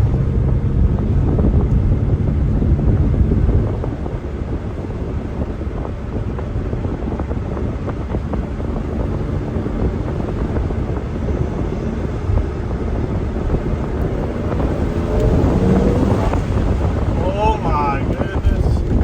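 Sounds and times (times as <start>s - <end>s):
car engine and road rumble: 0.0s - 19.0s
wind buffeting microphone: 0.0s - 19.0s.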